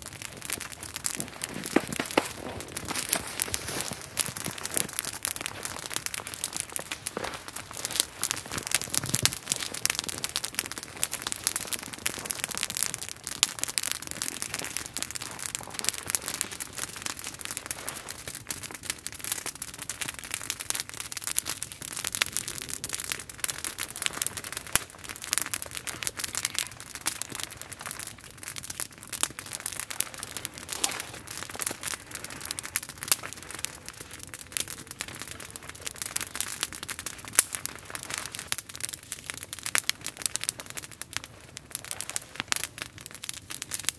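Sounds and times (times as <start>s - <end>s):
campfire crackling: 0.0s - 43.9s
sharp fire pops: 0.0s - 43.9s.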